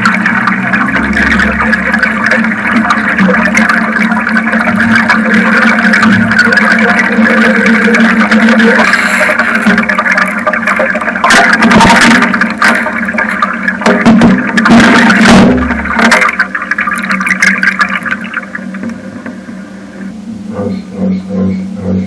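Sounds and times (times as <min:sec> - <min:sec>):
steady low hum: 0:00.0 - 0:22.0
water churning and gurgling: 0:00.0 - 0:22.0.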